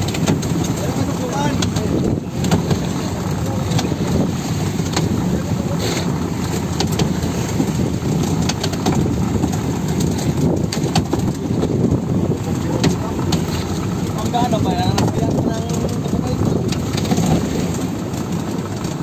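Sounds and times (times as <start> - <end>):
boat engine running: 0.0 - 19.0
winch hauling rope: 0.0 - 19.0.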